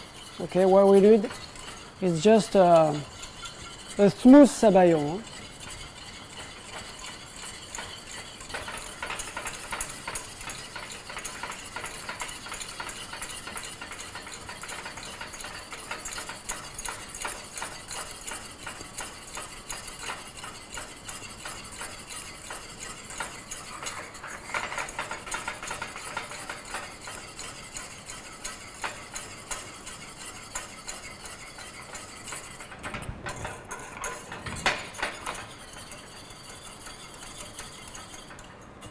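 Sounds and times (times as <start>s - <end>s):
whisk scraping a metal pan: 0.0s - 38.9s.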